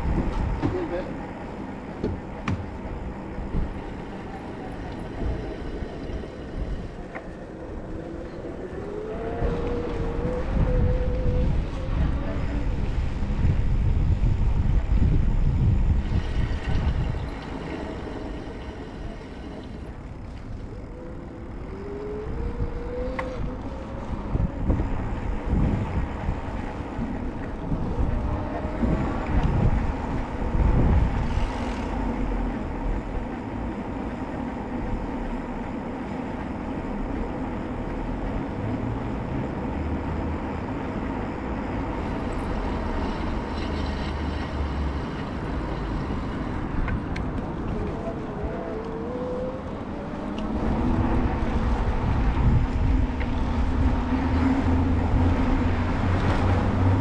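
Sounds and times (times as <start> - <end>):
low traffic rumble: 0.0 - 57.0
vehicle engines passing: 0.0 - 57.0.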